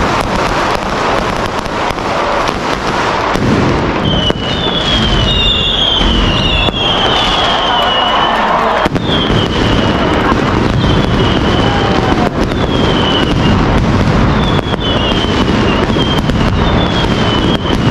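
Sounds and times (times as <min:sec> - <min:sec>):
firecrackers crackling: 0:00.0 - 0:17.9
whistling rockets: 0:00.0 - 0:17.9.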